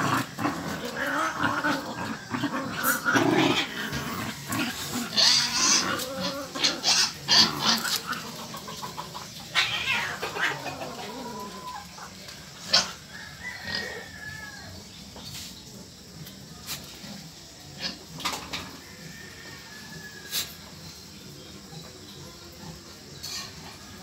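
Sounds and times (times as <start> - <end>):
animals snarling and scuffling: 0.0 - 24.0.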